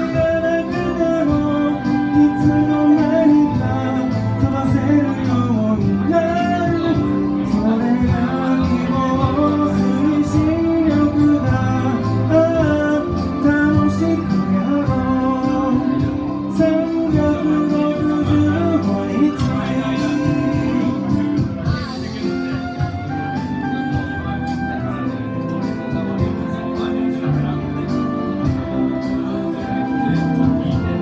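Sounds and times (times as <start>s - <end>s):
organ-led live pop band: 0.0s - 31.0s.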